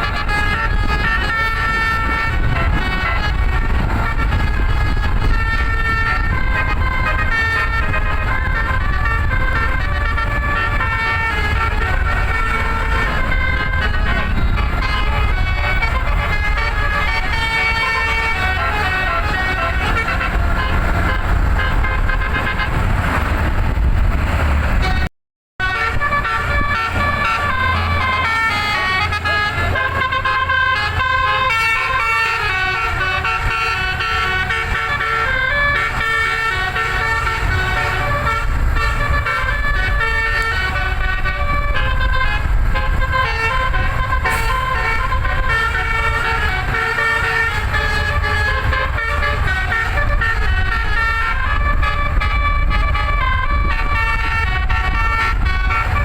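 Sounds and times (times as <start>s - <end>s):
bus air horn melody: 0.0s - 56.0s
engine rumble: 0.0s - 56.0s.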